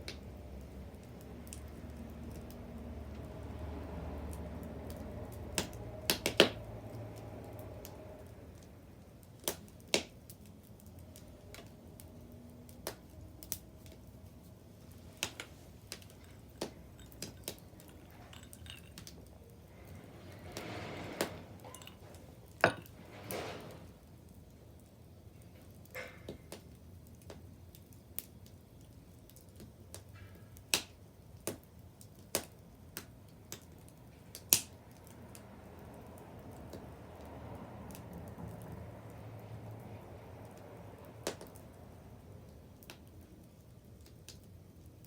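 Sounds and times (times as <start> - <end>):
sharp pops from fire: 0.0 - 3.3, 4.3 - 35.4, 40.4 - 41.7, 42.8 - 45.0
bonfire crackling: 0.0 - 45.0.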